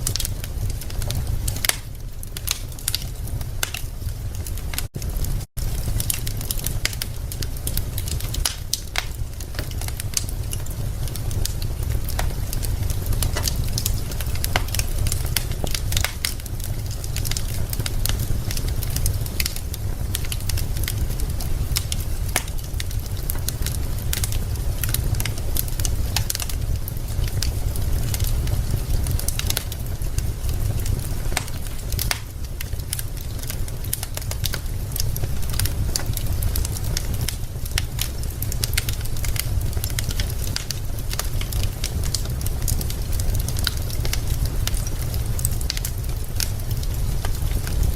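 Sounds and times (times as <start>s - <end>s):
fire low rumble: 0.0s - 47.9s
wood fire crackling and popping: 0.0s - 47.9s.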